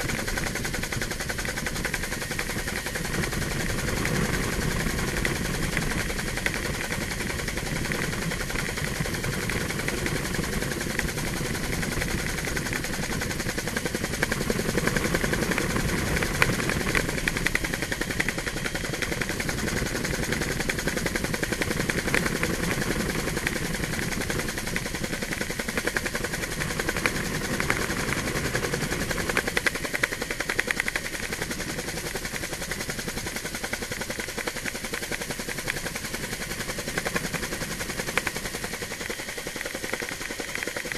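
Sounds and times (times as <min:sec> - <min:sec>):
helicopter engine noise: 0:00.0 - 0:40.9
helicopter rotor chop: 0:00.0 - 0:40.9.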